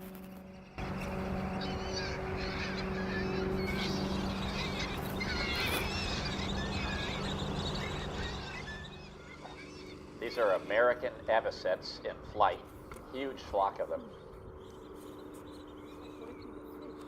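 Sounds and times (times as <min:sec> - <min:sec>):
steady low hum: 0:00.0 - 0:17.0
flock of birds calling: 0:00.4 - 0:17.0.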